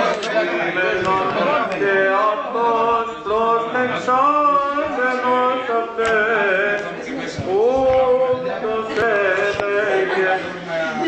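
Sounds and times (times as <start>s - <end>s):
men singing a chant: 0.4s - 11.0s.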